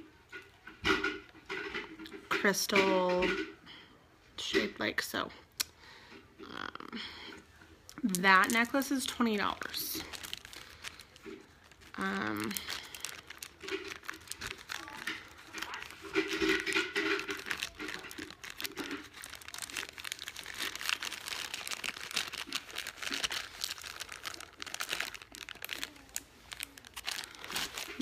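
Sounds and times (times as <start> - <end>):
crinkling and rustling: 0.2 - 3.5, 7.9 - 28.0.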